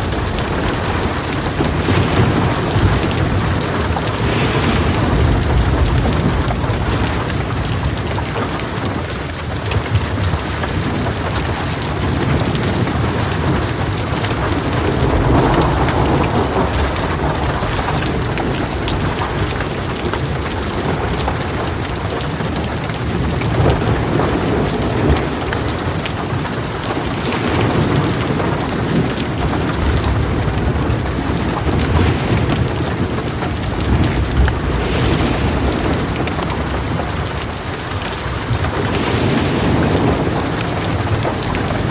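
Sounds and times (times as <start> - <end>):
heavy rain on a metal roof: 0.0 - 41.9
thunder rumbling: 0.0 - 41.9.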